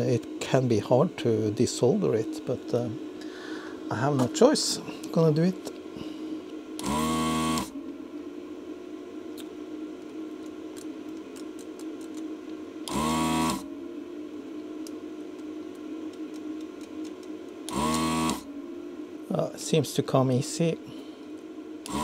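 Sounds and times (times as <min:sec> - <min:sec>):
vacuum pump whirring: 0:00.0 - 0:08.0, 0:09.9 - 0:14.4, 0:15.0 - 0:18.8, 0:19.6 - 0:22.0
steady low hum: 0:00.0 - 0:22.0.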